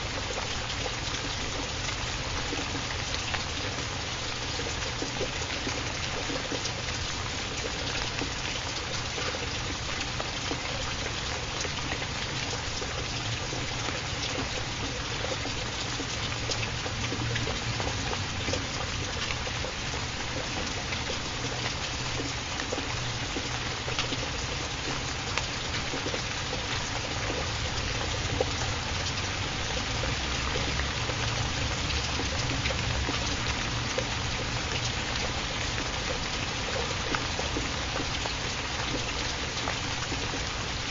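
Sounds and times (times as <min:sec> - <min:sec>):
steady rain hiss: 0:00.0 - 0:40.9
water drips ticking: 0:00.0 - 0:40.9.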